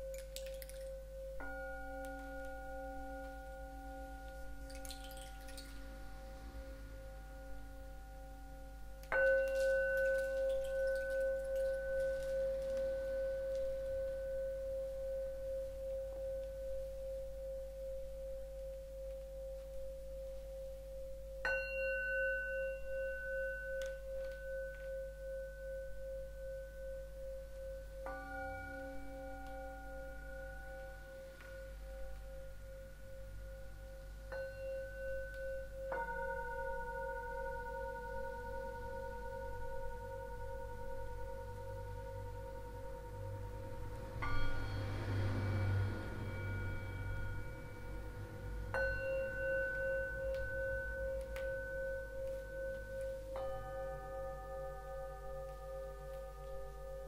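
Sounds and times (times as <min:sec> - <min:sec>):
singing bowls ringing: 0:00.0 - 0:57.0.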